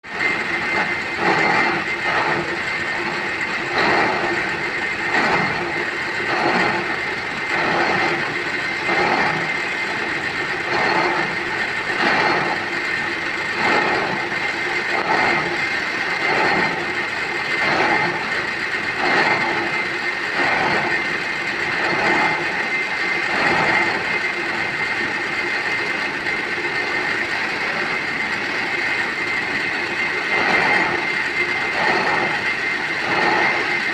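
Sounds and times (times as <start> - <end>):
workshop machine knocking: 0.0 - 33.9.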